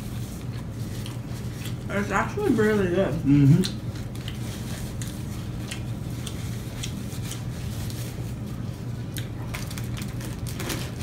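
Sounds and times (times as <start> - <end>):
person chewing food: 0.0 - 1.9, 3.4 - 10.4
steady low hum: 0.0 - 11.0.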